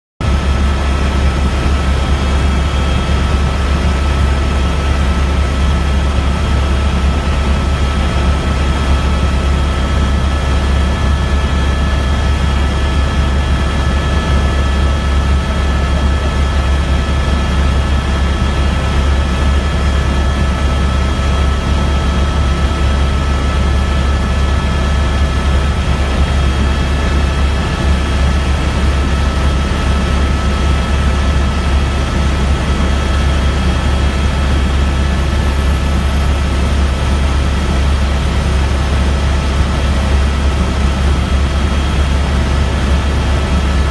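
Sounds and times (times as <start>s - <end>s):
helicopter engine and rotor drone: 0.2s - 43.9s.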